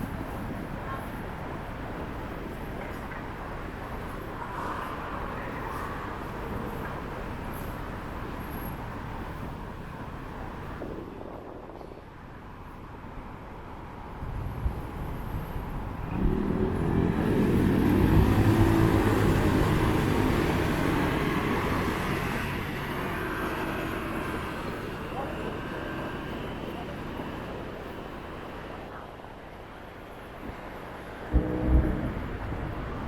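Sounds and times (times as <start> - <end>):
city road traffic: 0.0 - 33.0.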